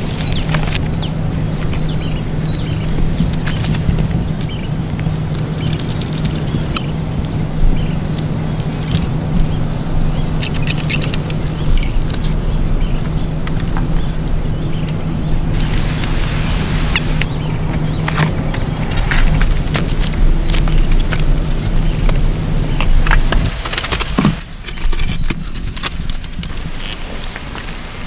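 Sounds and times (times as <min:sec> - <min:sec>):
bird chirping: 0:00.0 - 0:28.0
steady low hum: 0:00.0 - 0:28.0.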